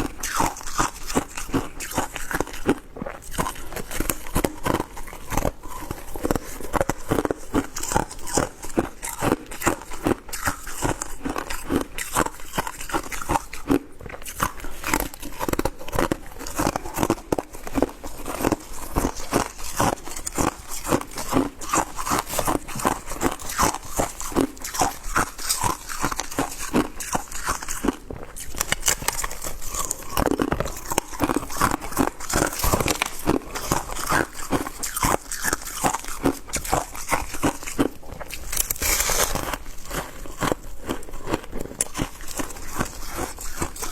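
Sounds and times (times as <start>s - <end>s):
shaved ice being chewed: 0.0s - 43.9s.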